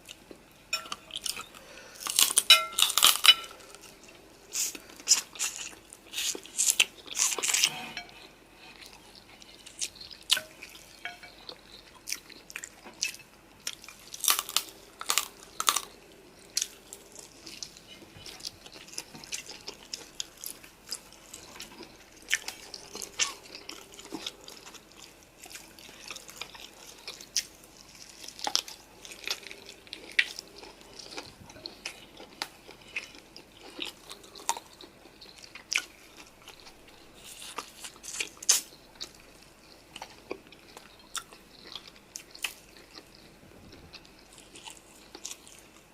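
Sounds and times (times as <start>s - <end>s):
chewing and crunching: 0.0s - 45.9s.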